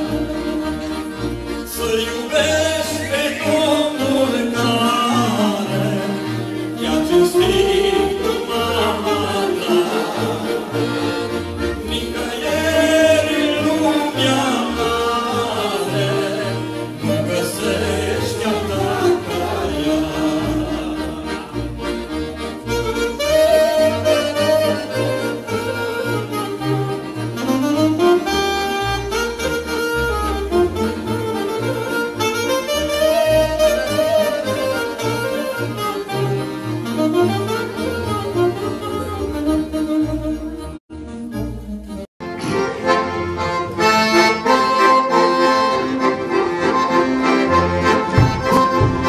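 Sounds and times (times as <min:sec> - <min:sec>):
accordion song with bass line: 0:00.0 - 0:49.0.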